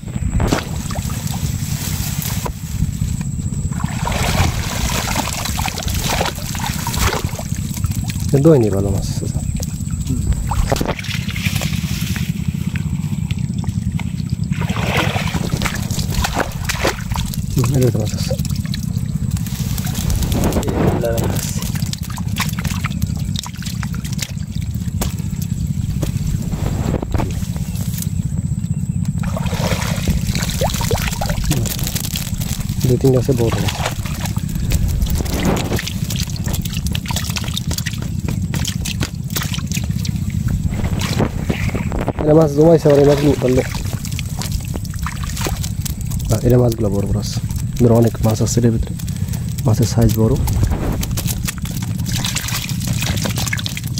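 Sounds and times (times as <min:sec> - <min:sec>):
water splashing and running off: 0:00.0 - 0:03.0, 0:03.7 - 0:27.6, 0:29.2 - 0:53.9
steady low rumble: 0:00.0 - 0:53.9.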